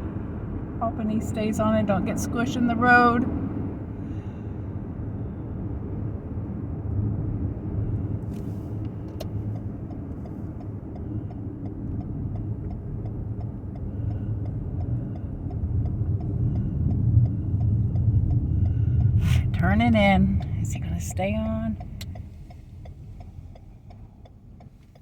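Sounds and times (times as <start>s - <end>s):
car engine and road rumble: 0.0s - 25.0s
turn signal ticking: 0.0s - 25.0s.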